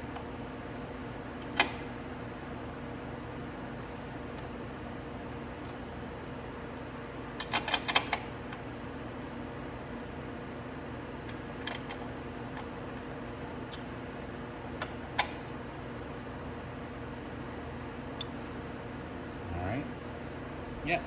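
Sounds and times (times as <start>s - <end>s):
workshop hum: 0.0s - 9.9s, 10.5s - 21.0s.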